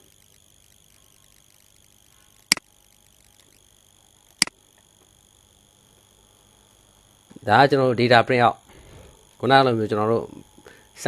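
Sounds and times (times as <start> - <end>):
faint high-pitched hum: 0.0 - 11.0.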